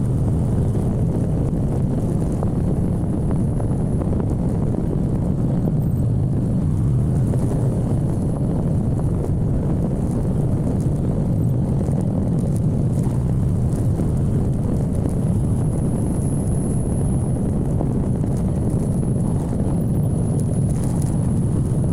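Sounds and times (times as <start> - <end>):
motorcycle engine rumble: 0.0 - 21.9
wind noise on microphone: 0.0 - 21.9.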